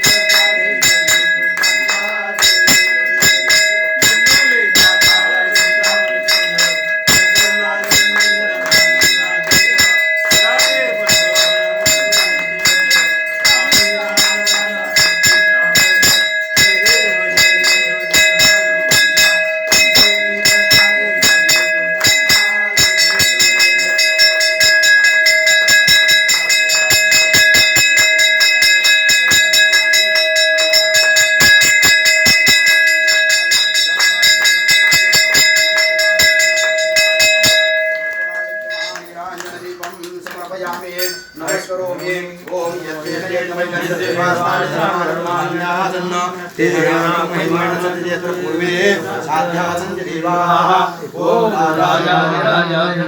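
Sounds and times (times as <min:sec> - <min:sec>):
temple bells ringing rapidly: 0:00.0 - 0:52.2.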